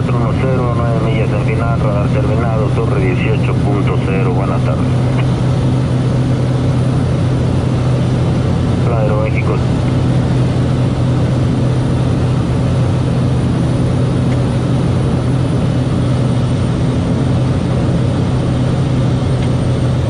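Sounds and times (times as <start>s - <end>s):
turboprop engine drone: 0.0s - 20.0s.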